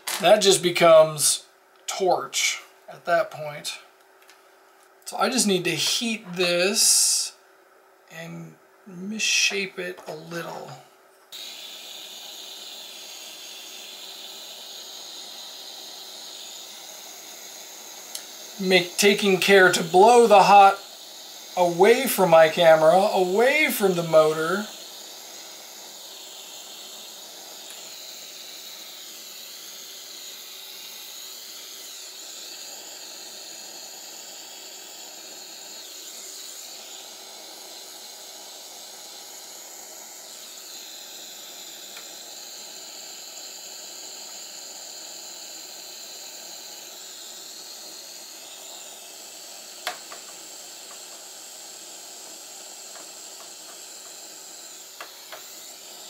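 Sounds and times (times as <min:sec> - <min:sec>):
gas torch hissing: 0:00.0 - 0:03.8, 0:05.1 - 0:07.4, 0:09.2 - 0:56.0.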